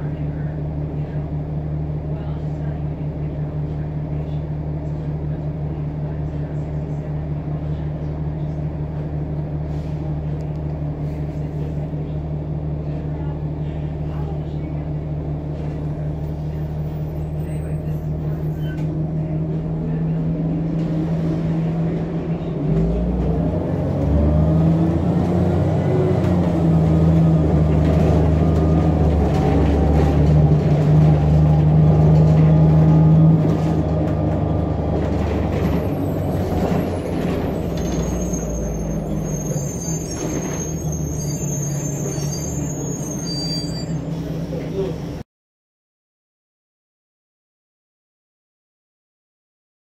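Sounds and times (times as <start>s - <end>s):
bus engine whining: 0.0s - 45.2s.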